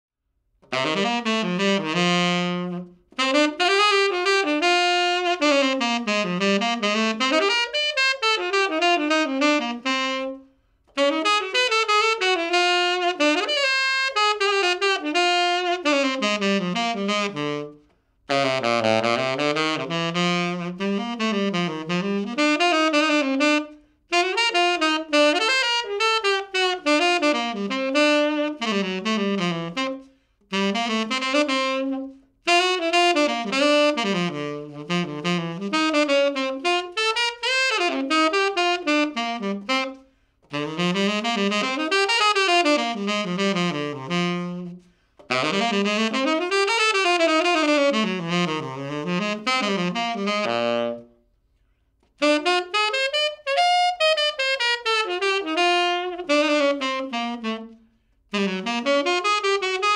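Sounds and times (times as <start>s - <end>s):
solo tenor saxophone melody: 0.6s - 59.9s.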